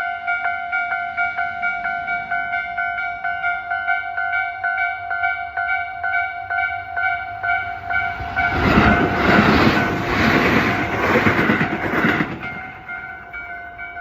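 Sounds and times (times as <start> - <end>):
railway crossing bell ringing: 0.0 - 14.0
train passing over crossing: 0.0 - 14.0.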